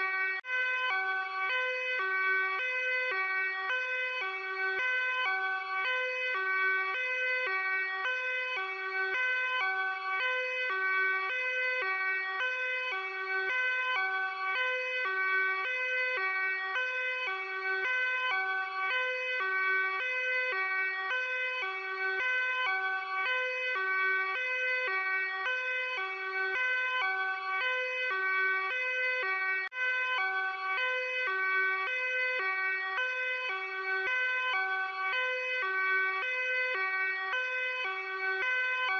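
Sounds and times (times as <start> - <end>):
police two-tone siren: 0.0 - 38.9.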